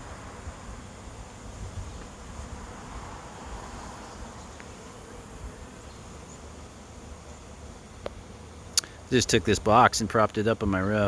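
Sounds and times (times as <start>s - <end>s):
honey bee swarm humming: 0.0s - 11.0s.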